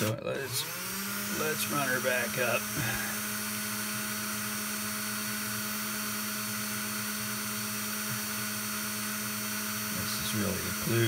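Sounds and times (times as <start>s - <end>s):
lathe motor hum: 0.0s - 11.0s.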